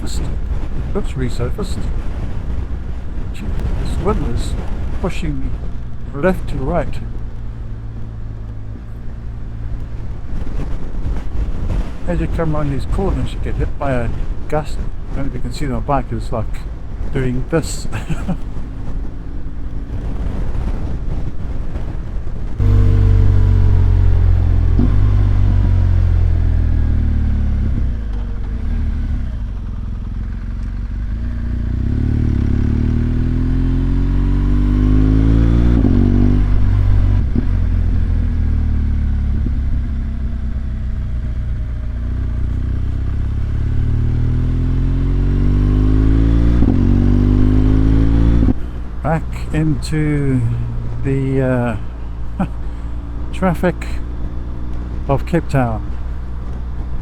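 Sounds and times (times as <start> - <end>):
motorcycle engine accelerating: 0.0 - 15.2, 17.8 - 57.0.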